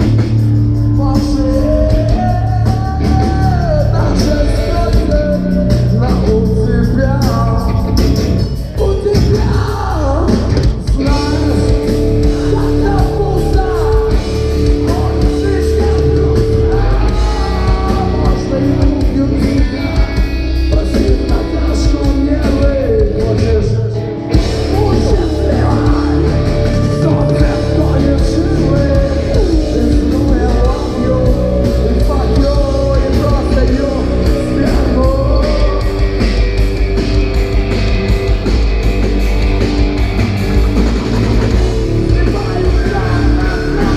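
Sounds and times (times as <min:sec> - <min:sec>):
live rock band with vocals: 0:00.0 - 0:43.9.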